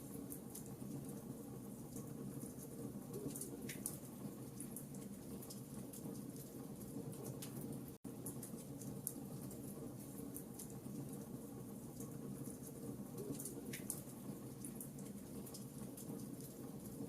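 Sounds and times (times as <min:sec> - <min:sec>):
low rumble of flames: 0:00.0 - 0:17.0
fire crackling and popping: 0:00.1 - 0:17.0.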